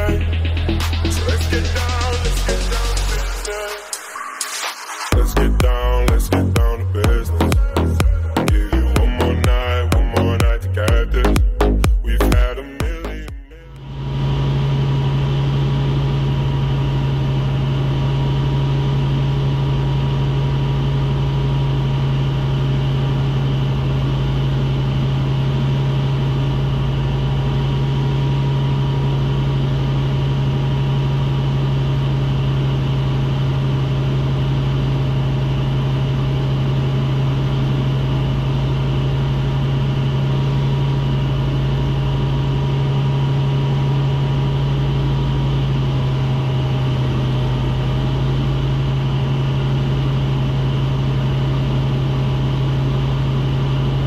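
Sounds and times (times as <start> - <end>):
thin steady whine: 0.0 - 54.0
light aircraft engine drone: 5.1 - 54.0.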